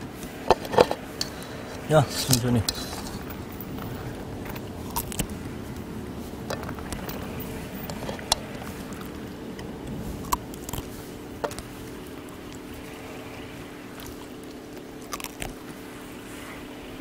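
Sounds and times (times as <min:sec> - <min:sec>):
dogs chewing and crunching: 0:00.0 - 0:17.0
low hum: 0:00.0 - 0:17.0.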